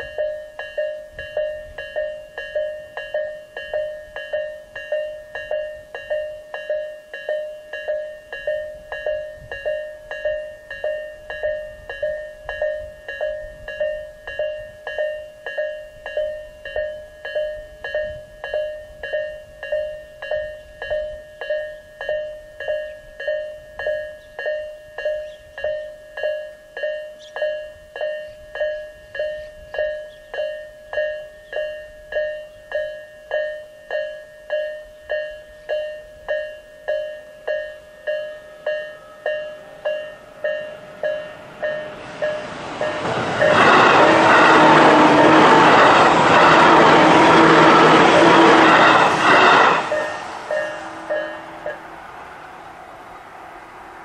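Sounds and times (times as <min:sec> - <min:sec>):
level crossing warning bell dinging: 0:00.0 - 0:52.0.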